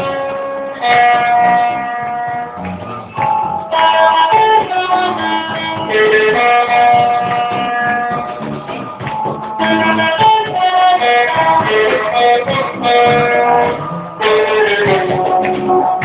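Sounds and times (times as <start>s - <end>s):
melody of long held notes: 0.0s - 16.0s
plucked strings: 0.0s - 16.0s.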